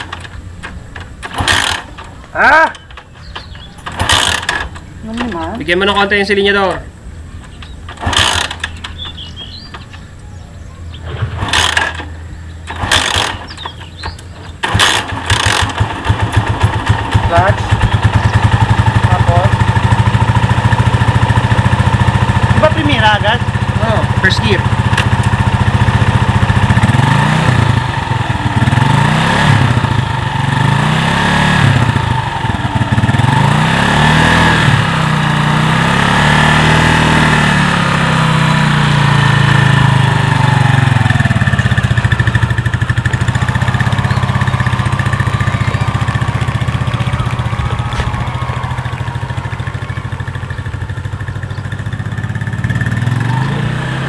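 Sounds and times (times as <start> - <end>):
motorcycle engine pulling away: 0.0 - 54.0.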